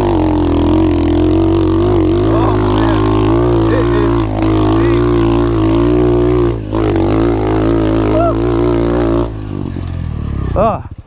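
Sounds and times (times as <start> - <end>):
motorcycle engine running hard: 0.0 - 11.0.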